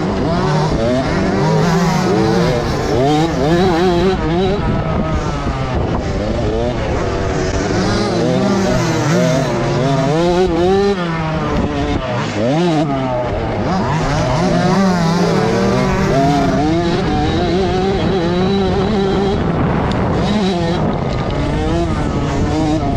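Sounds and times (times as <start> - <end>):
motocross bike engines revving: 0.0 - 22.9.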